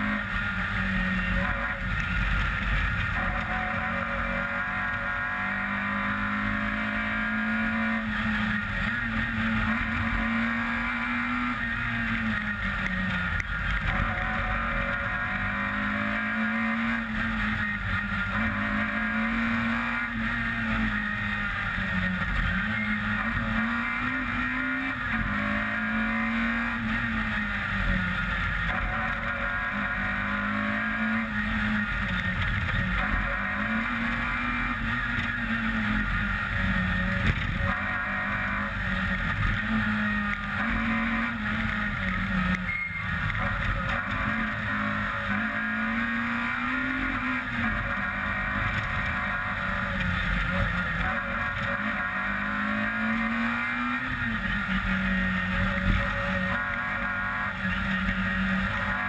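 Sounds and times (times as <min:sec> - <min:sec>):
rally car engine revving: 0:00.0 - 0:59.0
road and wind noise: 0:00.0 - 0:59.0.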